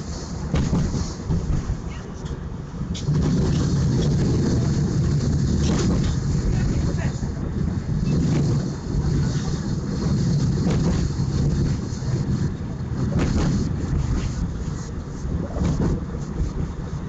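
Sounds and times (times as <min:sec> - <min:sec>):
tram motors and wheels on rails: 0:00.0 - 0:17.0.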